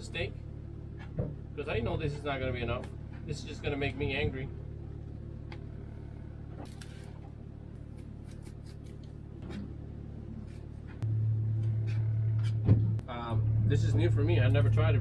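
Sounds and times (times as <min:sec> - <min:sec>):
loud low hum: 0:00.0 - 0:15.0
low steady hum: 0:00.0 - 0:15.0.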